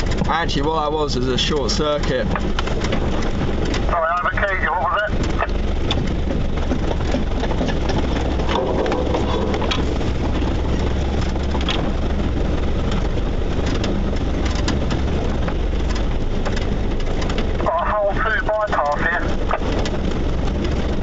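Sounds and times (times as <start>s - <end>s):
vehicle engine running at low revs: 0.0s - 21.0s
vehicle knocks and clatter: 0.0s - 21.0s.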